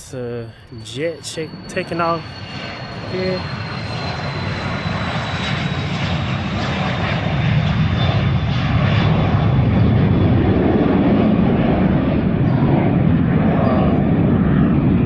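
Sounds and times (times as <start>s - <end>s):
high turbine whine: 0.0s - 15.0s
jet aircraft taking off: 0.0s - 15.0s.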